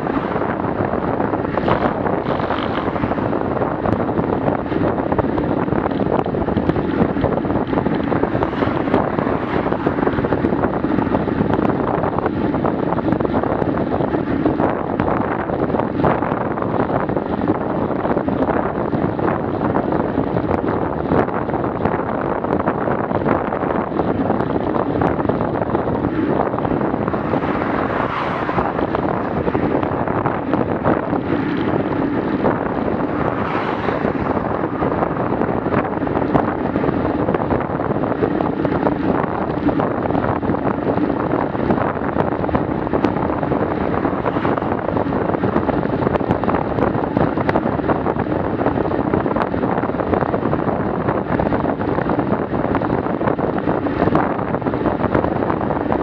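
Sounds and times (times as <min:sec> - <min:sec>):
bicycle tyres on asphalt: 0:00.0 - 0:56.0
wind buffeting microphone: 0:00.0 - 0:56.0.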